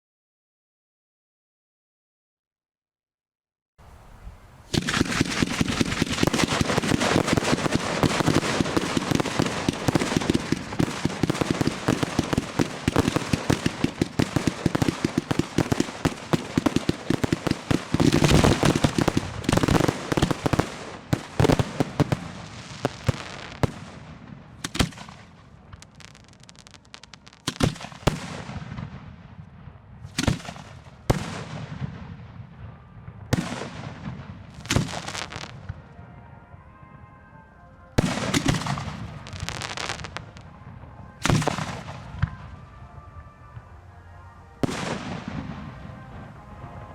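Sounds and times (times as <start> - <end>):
fireworks crackling and banging: 4.7 - 36.6, 38.0 - 46.9.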